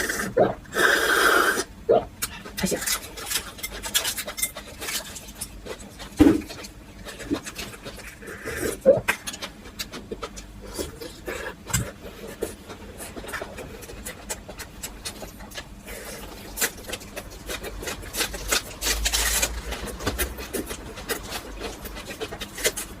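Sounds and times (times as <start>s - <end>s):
person chewing: 0.0s - 23.0s.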